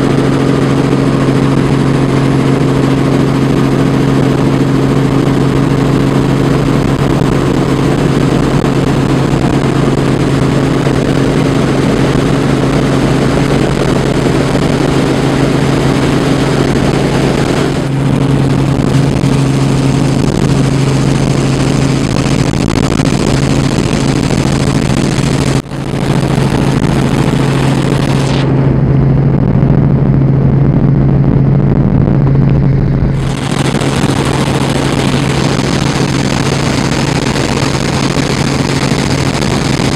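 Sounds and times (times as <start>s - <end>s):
helicopter rotor and engine drone: 0.0s - 39.9s
loud rushing noise: 0.0s - 39.9s.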